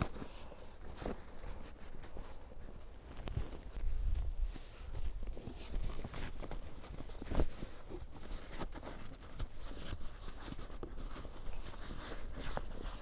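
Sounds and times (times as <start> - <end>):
canvas fabric rustling: 0.0 - 13.0.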